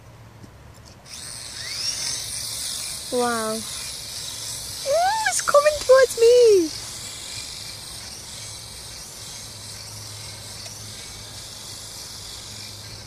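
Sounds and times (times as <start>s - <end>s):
rc helicopter rotors whirring: 0.8s - 13.0s.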